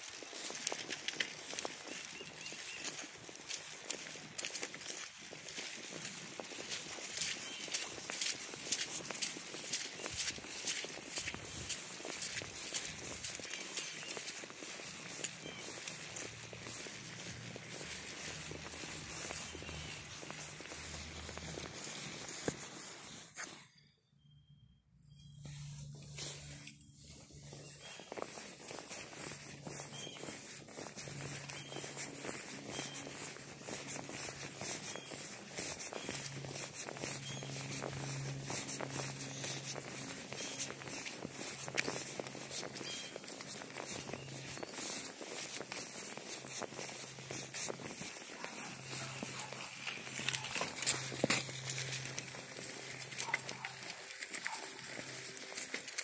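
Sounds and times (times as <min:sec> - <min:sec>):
footsteps on dry grass: 0:00.0 - 0:23.8, 0:25.1 - 0:56.0
measuring wheel ticking over grass: 0:00.0 - 0:23.9, 0:25.0 - 0:56.0.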